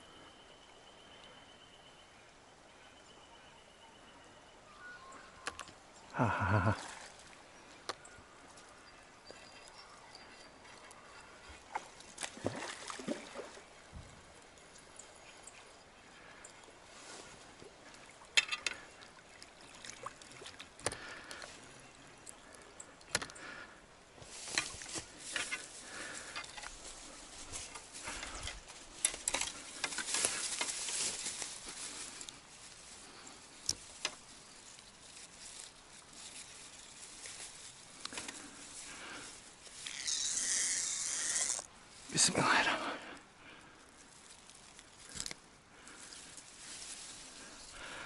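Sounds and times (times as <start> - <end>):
faint outdoor hush: 0.0 - 48.0
grass rustling underfoot: 6.4 - 22.8, 23.4 - 48.0.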